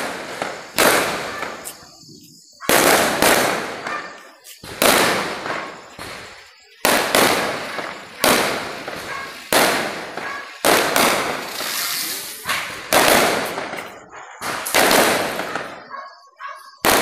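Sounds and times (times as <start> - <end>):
firecrackers banging: 0.0 - 16.0, 16.8 - 17.0.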